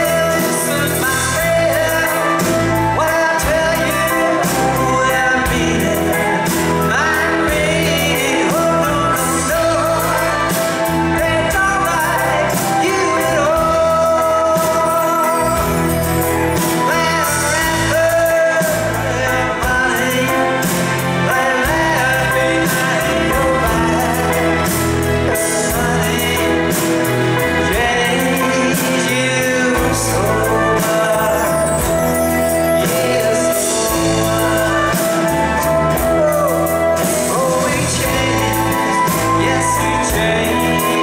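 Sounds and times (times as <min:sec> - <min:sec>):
live band playing: 0:00.0 - 0:41.0
man singing: 0:00.0 - 0:41.0.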